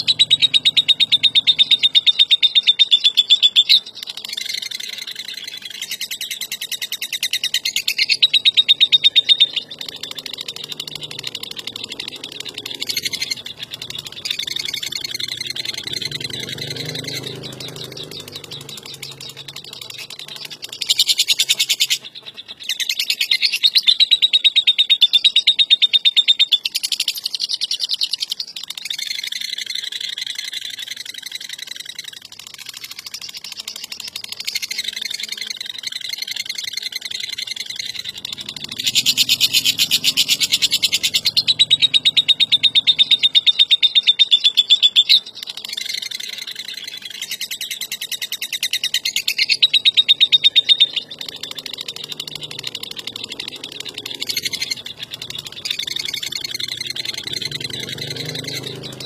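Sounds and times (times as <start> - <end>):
bird chattering trill: 0.0 - 59.0.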